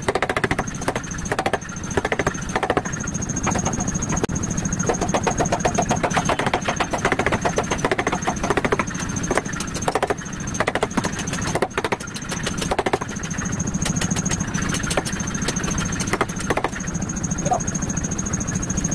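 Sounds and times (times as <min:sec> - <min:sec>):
motor humming: 0:00.0 - 0:18.9.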